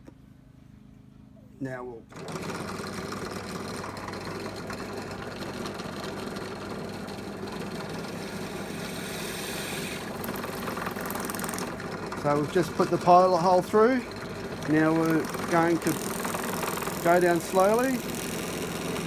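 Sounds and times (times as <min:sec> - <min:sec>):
electric drill boring plastic: 0:02.2 - 0:19.0.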